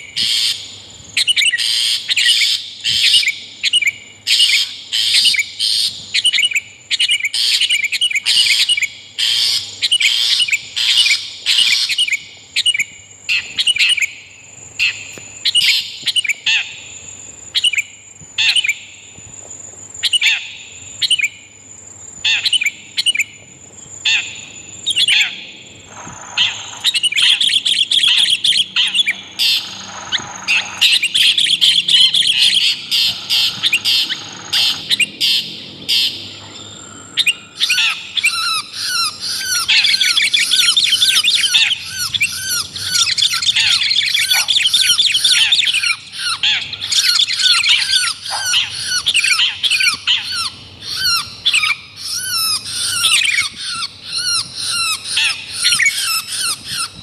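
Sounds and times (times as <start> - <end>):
bird calls: 0.0 - 19.2, 22.1 - 57.0.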